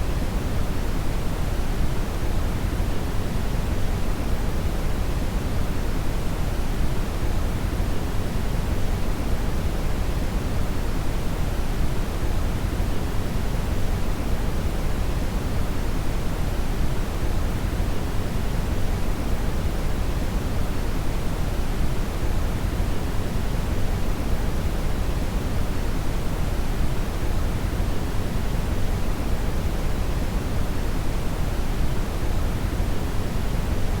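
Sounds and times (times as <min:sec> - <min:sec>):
brown noise hiss: 0:00.0 - 0:34.0.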